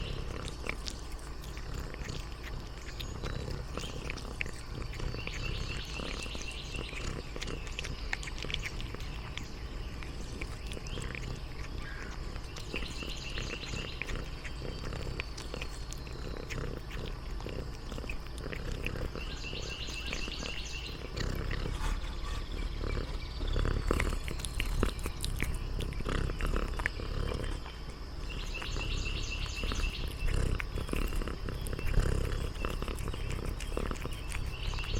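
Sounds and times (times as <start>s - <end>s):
cat chewing: 0.0s - 34.9s
cat purring: 0.0s - 34.9s.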